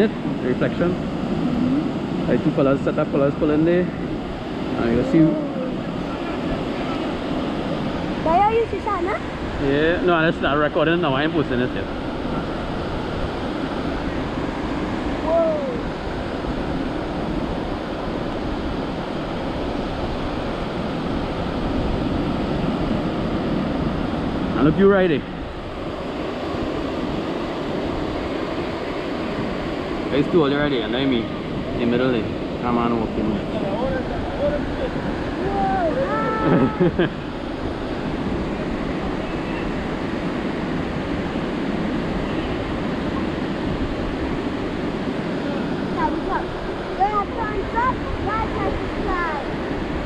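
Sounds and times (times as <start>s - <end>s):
ocean surf breaking: 0.0s - 50.0s
wind rumble on microphone: 0.0s - 50.0s.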